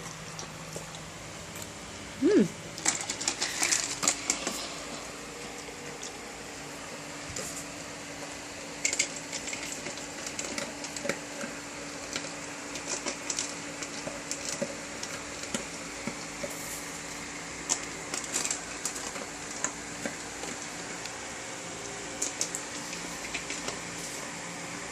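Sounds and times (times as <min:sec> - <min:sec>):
dog eating crunchy food: 0:00.0 - 0:24.9
steady background hum: 0:00.0 - 0:24.9.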